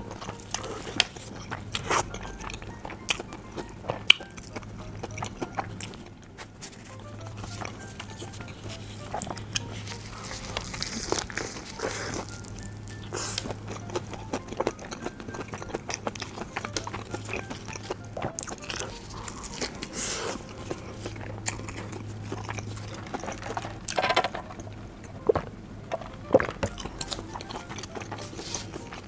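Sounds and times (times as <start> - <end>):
chewing crunchy fried chicken: 0.0 - 29.0.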